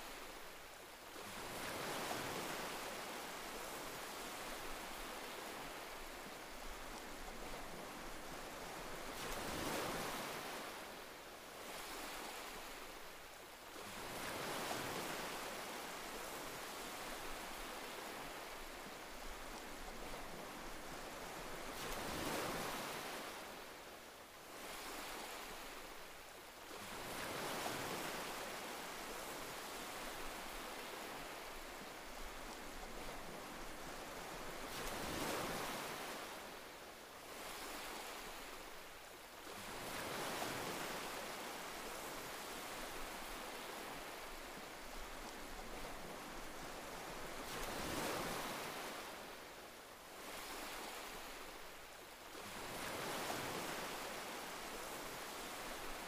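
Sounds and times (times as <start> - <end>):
waves breaking and washing in: 0.0 - 56.0.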